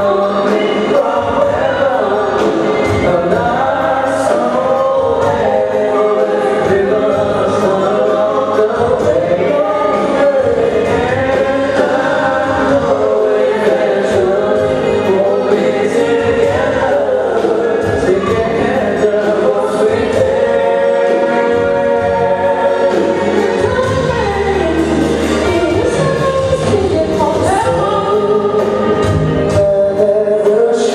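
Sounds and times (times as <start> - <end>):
drums: 0.0 - 30.9
person singing: 0.0 - 30.9.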